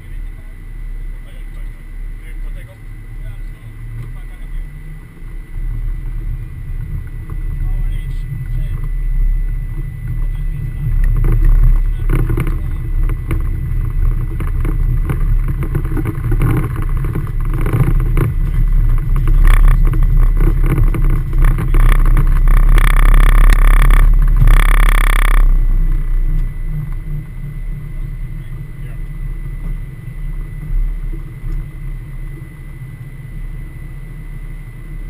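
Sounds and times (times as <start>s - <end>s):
jet engines rumbling: 0.0s - 35.0s
wheels on runway: 0.0s - 35.0s.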